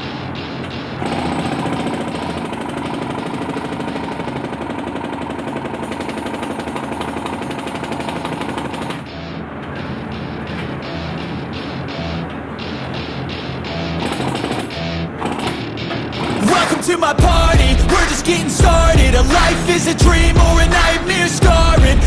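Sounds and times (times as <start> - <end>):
jackhammer hammering slag: 0.0 - 9.2, 13.1 - 22.0.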